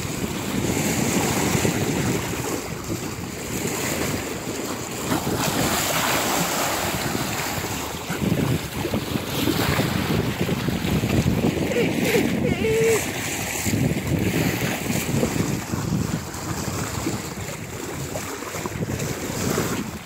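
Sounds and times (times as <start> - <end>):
water rushing along boat hull: 0.0 - 20.0
wind buffeting microphone: 0.0 - 20.0.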